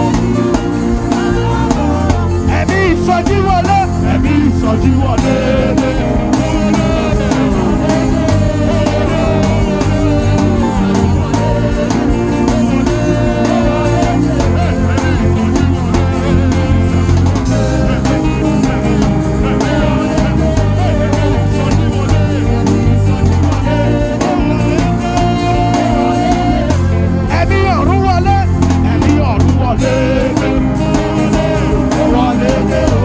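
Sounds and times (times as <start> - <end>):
live gospel band: 0.0 - 33.0
person singing: 0.0 - 33.0.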